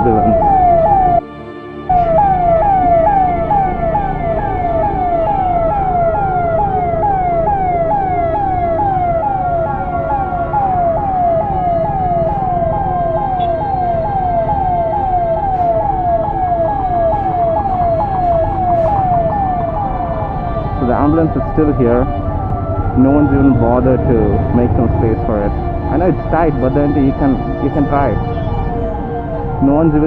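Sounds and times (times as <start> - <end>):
road traffic noise: 0.0 - 1.2, 1.9 - 30.0
ambulance siren wailing: 0.0 - 30.0.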